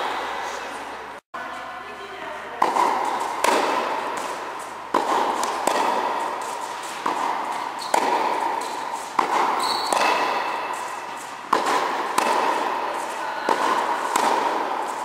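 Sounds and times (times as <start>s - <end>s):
tennis ball struck by rackets: 2.6s - 15.0s.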